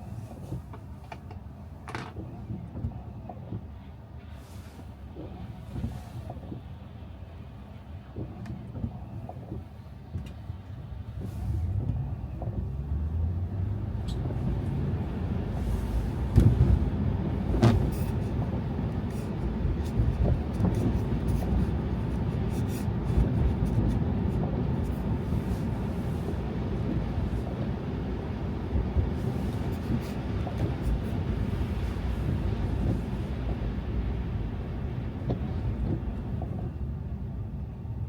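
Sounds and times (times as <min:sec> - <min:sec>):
road and tyre rumble: 0:00.0 - 0:38.0.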